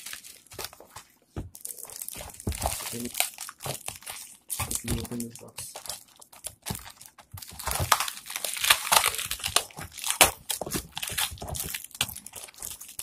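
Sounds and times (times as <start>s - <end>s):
plastic mailer bag crinkling: 0.0s - 1.0s, 1.6s - 13.0s.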